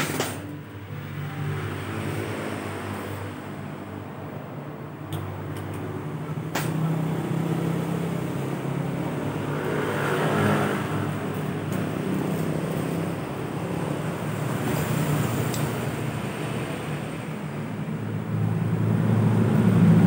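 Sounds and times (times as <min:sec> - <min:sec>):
engine running with low hum: 0:00.0 - 0:20.0.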